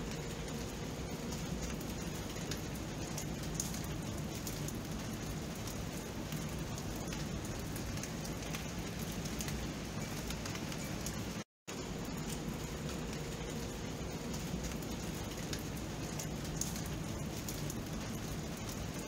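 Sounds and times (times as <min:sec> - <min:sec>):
raindrops ticking: 0:00.0 - 0:19.0
steady rain hiss: 0:00.0 - 0:19.0.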